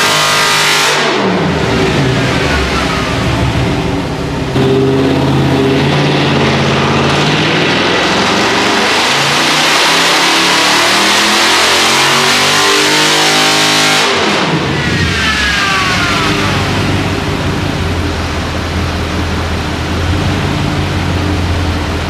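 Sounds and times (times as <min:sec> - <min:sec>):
car engine revving at full throttle: 0:00.0 - 0:22.0.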